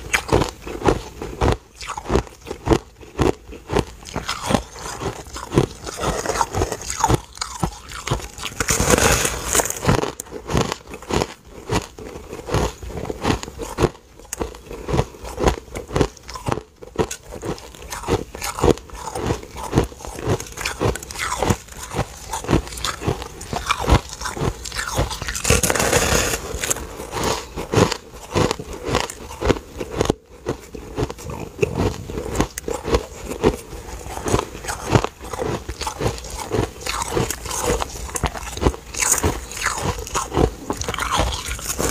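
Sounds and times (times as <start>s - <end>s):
crunching ice while chewing: 0.0s - 41.9s.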